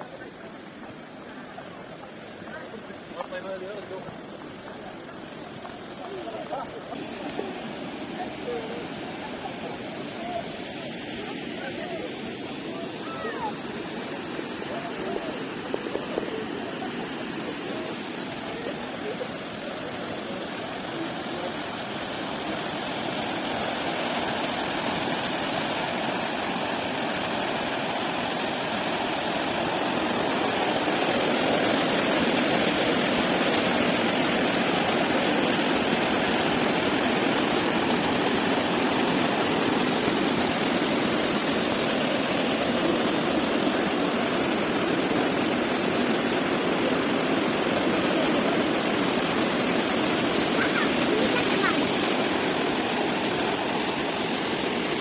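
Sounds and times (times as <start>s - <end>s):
rushing water of a cascade: 0.0s - 55.0s.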